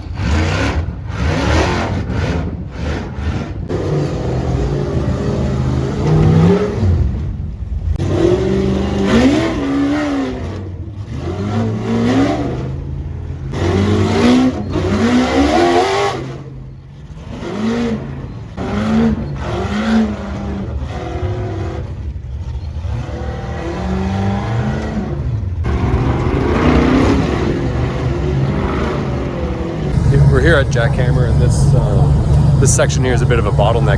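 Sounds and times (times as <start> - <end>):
buggy engines revving: 0.0 - 33.9.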